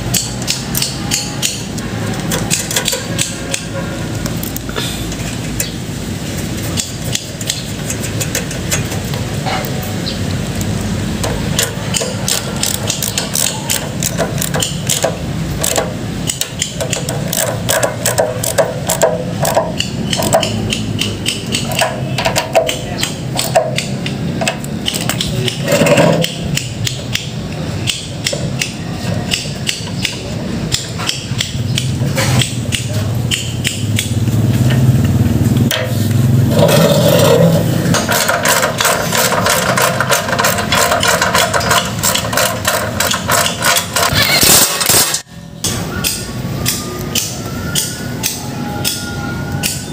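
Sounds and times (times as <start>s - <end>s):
hand tools clicking on metal: 0.0s - 5.8s, 6.6s - 9.8s, 10.6s - 34.1s, 36.6s - 49.9s.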